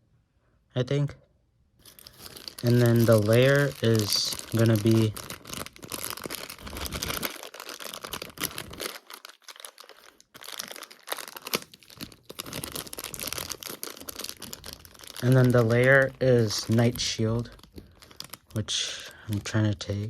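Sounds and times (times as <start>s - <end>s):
plastic packaging crinkling: 1.8s - 19.9s.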